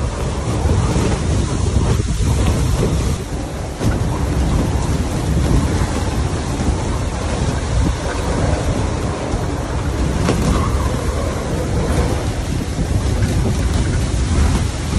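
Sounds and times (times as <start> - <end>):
rush of wind-whipped sea: 0.0 - 14.9
wind buffeting the microphone: 0.0 - 14.9.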